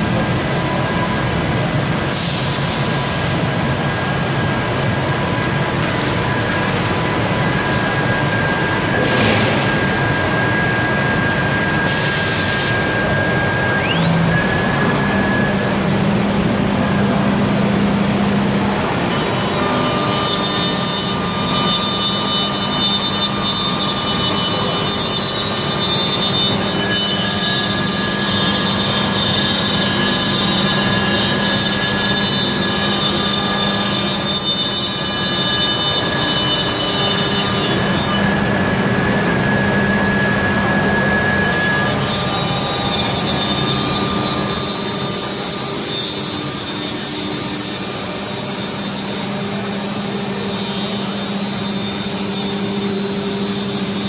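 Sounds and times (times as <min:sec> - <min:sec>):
steady machine hum: 0:00.0 - 0:54.0
router spindle whine: 0:02.8 - 0:54.0.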